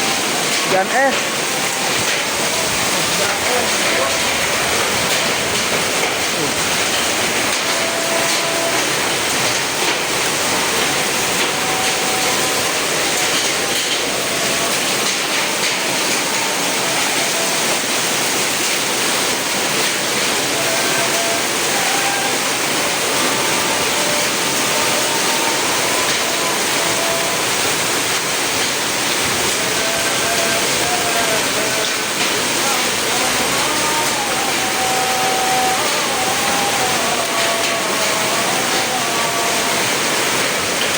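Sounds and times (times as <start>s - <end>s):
heavy rain and hail: 0.0s - 40.9s.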